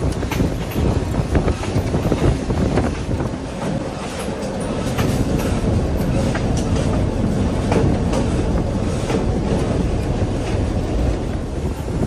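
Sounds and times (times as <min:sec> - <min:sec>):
locomotive engine rumble: 0:00.0 - 0:12.0
wheels clacking on rails: 0:00.0 - 0:12.0.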